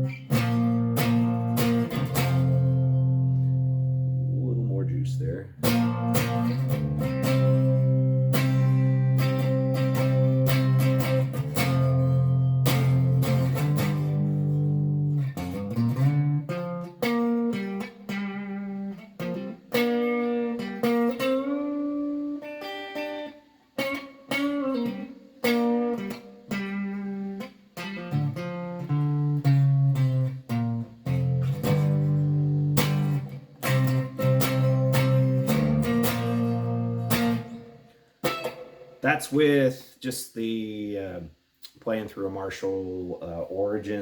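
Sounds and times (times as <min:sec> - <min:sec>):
clean electric guitar playing: 0:00.0 - 0:39.4.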